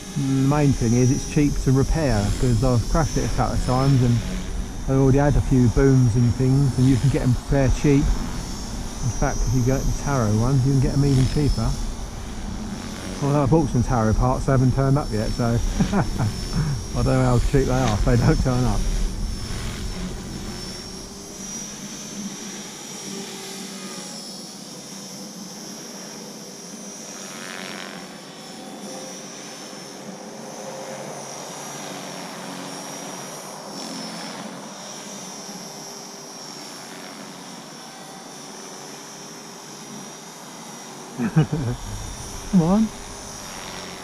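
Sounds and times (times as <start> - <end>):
rc helicopter whine: 0.0 - 44.0.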